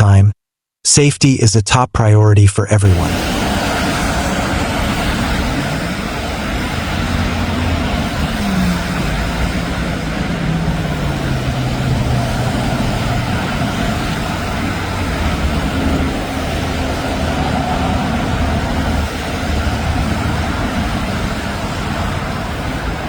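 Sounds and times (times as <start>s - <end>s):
engine drone falling in pitch: 2.8s - 23.0s
road traffic noise: 2.8s - 23.0s.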